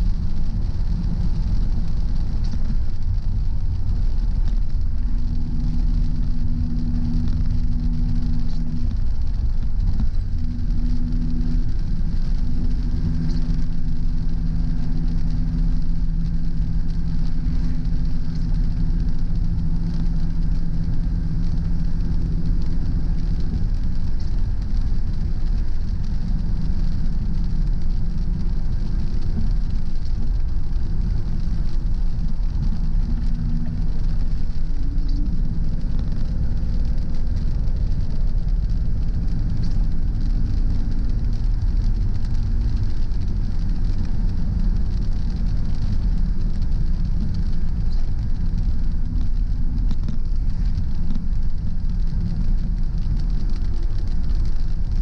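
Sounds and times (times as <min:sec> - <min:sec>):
car engine hum: 0:00.0 - 0:55.0
road and tyre rumble: 0:00.0 - 0:55.0.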